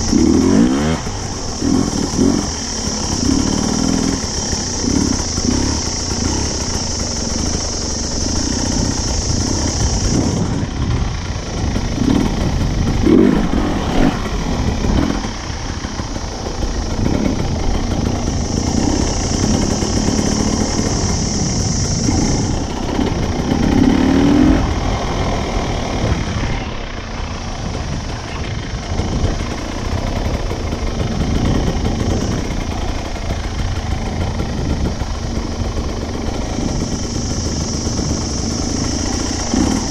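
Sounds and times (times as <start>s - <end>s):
dirt bike engine revving: 0.0s - 39.9s
high steady buzz: 0.0s - 39.9s.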